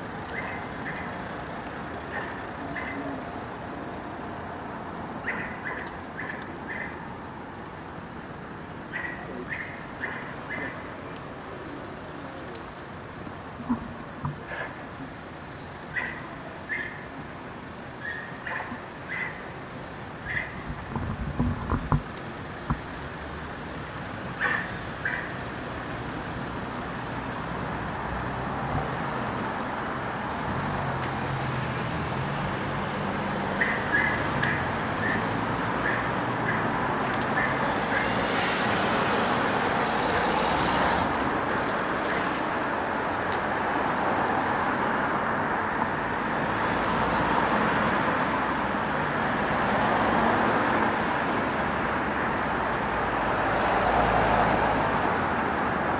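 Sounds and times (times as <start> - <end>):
road traffic passing: 0.0 - 55.9.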